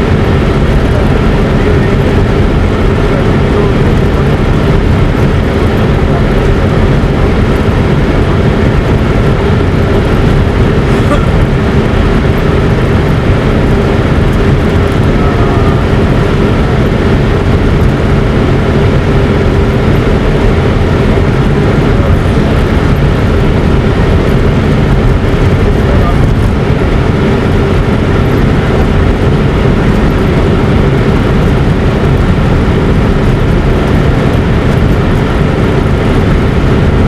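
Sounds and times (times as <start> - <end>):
vehicle rumbling in motion: 0.0 - 37.0.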